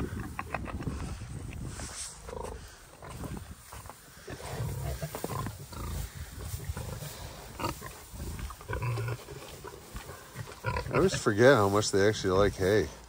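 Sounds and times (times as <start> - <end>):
pigs grunting: 0.0 - 1.4, 2.2 - 13.0
hay rustling and crunching: 0.3 - 12.9.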